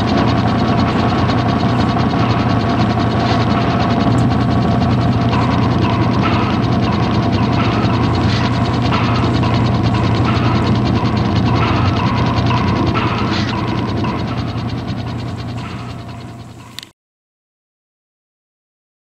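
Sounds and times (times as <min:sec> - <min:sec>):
mechanism ticking and whirring: 0:00.0 - 0:16.9.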